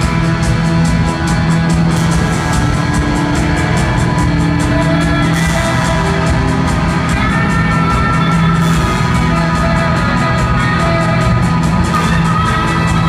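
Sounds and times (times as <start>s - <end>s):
drums steady beat: 0.0s - 13.0s
electric guitars sustained notes: 0.0s - 13.0s.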